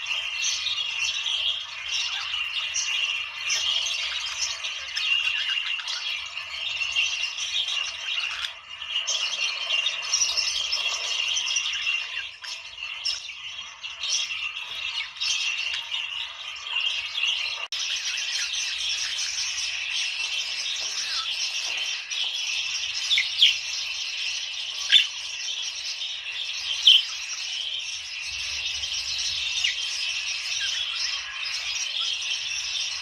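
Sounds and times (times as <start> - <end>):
budgerigars chattering: 0.0 - 33.0
sharp bird calls: 0.0 - 33.0.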